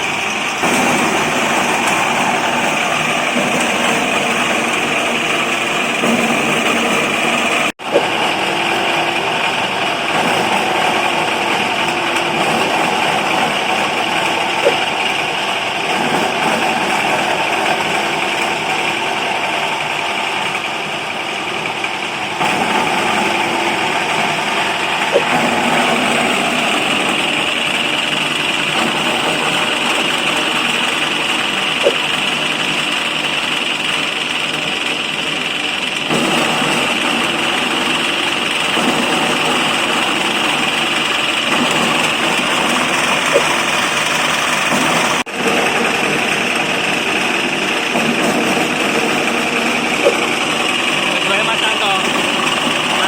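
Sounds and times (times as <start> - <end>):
bread grinding machine running: 0.0 - 53.0.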